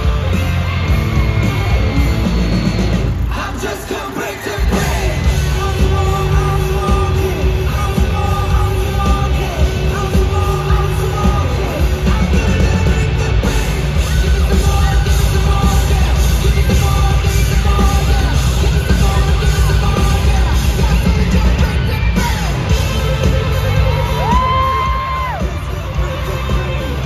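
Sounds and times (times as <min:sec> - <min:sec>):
live rock band: 0:00.0 - 0:27.0.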